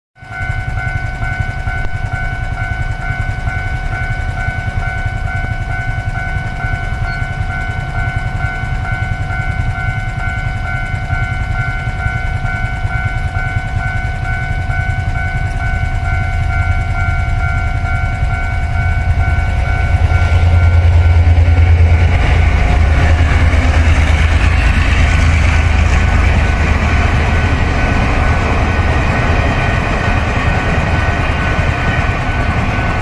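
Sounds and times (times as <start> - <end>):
level crossing warning bell: 0.2 - 33.0.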